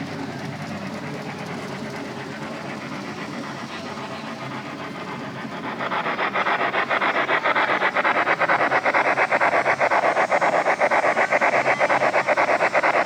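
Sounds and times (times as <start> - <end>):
model train chugging: 0.0 - 13.0.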